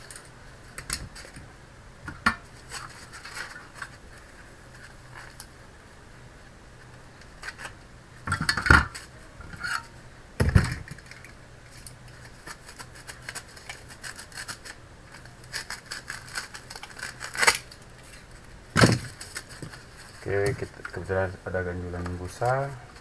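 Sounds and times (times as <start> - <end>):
hands handling computer parts: 2.1 - 5.6, 6.8 - 23.0.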